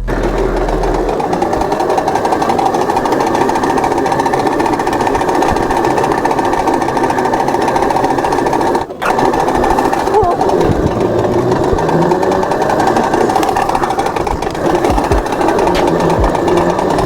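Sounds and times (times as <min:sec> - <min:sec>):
electric bike fast rattling: 0:00.0 - 0:17.0.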